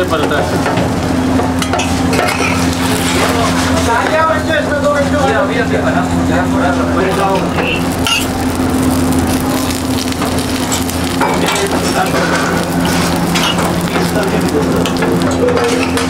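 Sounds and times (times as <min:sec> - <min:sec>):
food sizzling on griddle: 0:00.0 - 0:05.7, 0:06.3 - 0:16.0
steady low hum: 0:00.0 - 0:16.0.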